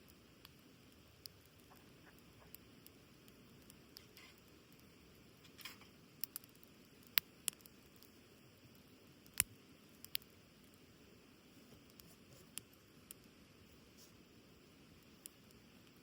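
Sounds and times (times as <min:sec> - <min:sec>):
campfire crackling and popping: 0:00.0 - 0:13.4, 0:14.4 - 0:16.0.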